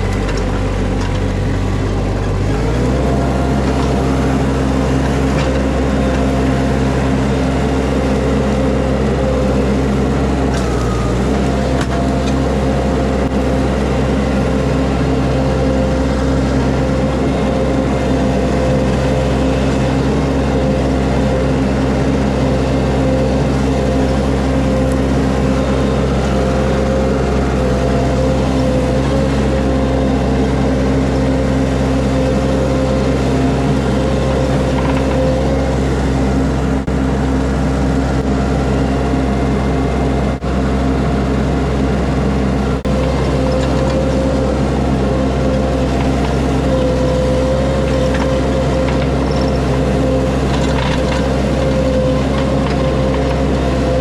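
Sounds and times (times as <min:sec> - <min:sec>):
skid steer engine running: 0:00.0 - 0:54.0.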